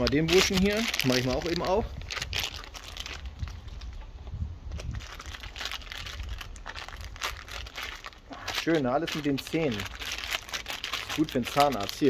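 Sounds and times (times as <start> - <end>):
plastic packaging crinkling and tearing: 0.0 - 4.1, 4.7 - 12.0.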